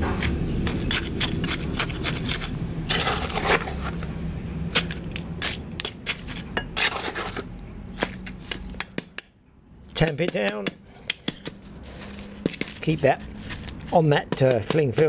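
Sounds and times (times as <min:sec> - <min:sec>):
trowel scraping gritty cement mix: 0:00.0 - 0:04.1, 0:04.7 - 0:08.8, 0:10.0 - 0:15.0.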